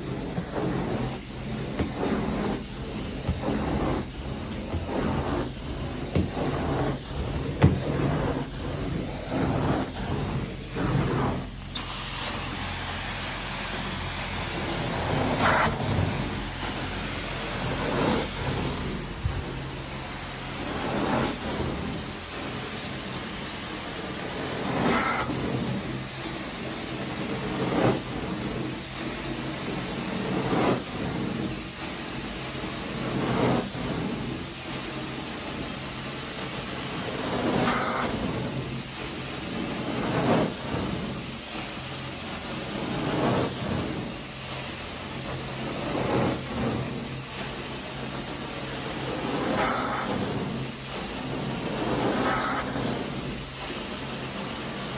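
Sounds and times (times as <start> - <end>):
carpet extraction wand spraying: 0.0 - 54.9
extractor suction hiss: 0.0 - 54.9.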